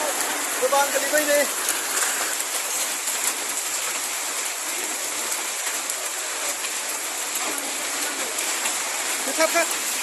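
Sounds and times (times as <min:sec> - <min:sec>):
hail and rain pelting down: 0:00.0 - 0:10.0.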